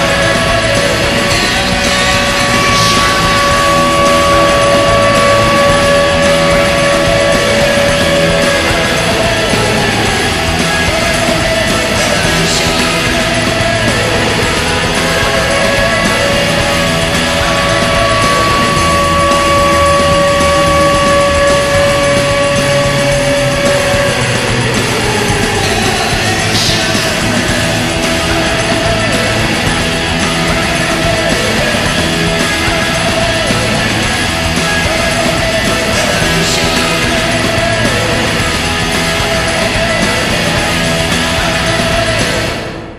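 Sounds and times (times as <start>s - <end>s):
goal horn blaring: 0.0s - 40.7s
loud rock song: 0.0s - 42.9s.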